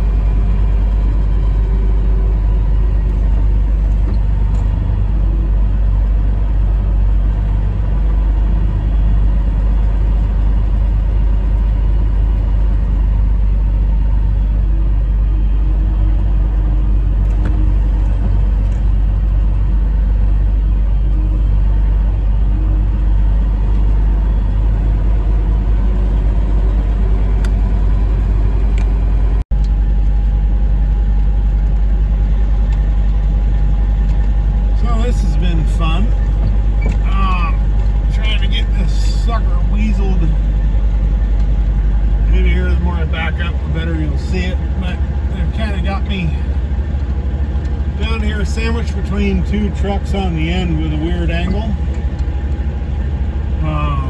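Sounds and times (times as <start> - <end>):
truck diesel engine rumbling: 0.0 - 54.0.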